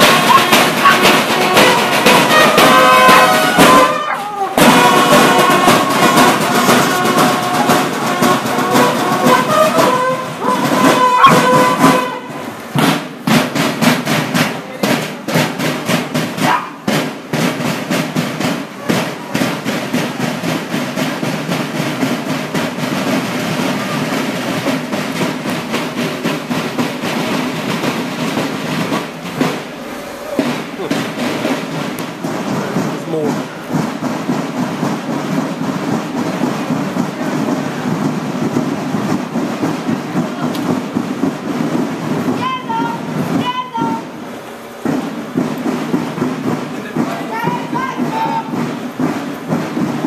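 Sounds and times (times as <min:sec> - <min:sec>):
bugles playing a call: 0:00.0 - 0:14.0, 0:14.9 - 0:50.0
snare and bass drums marching beat: 0:00.0 - 0:50.0.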